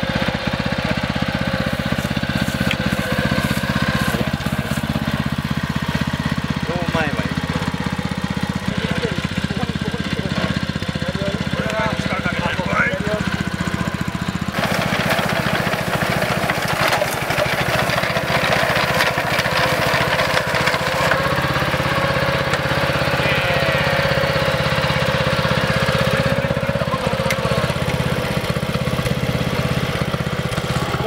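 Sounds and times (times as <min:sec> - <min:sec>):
small petrol engine running: 0:00.0 - 0:31.0.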